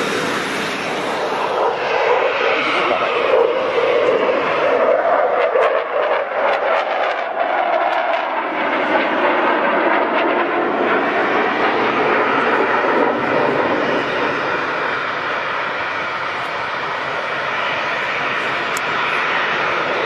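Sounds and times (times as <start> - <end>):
jet engine crackles: 0.0 - 20.0
jet engine roar: 0.0 - 20.0.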